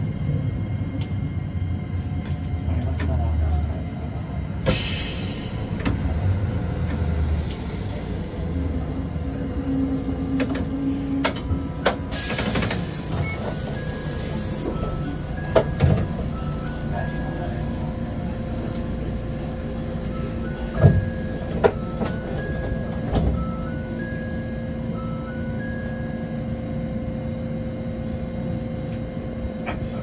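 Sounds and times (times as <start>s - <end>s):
tram rumbling along track: 0.0s - 30.0s.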